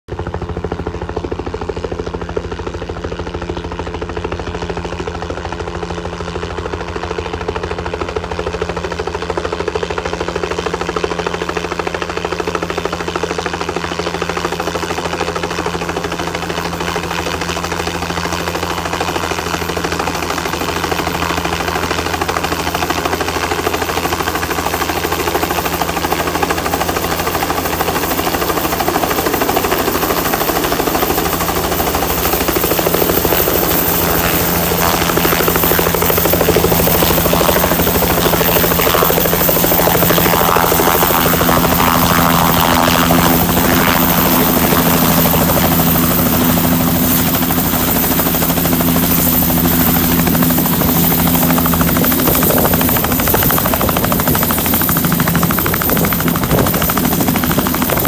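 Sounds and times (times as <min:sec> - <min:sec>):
helicopter rotor chop: 0:00.1 - 0:58.0
helicopter turbine whine: 0:00.1 - 0:58.0.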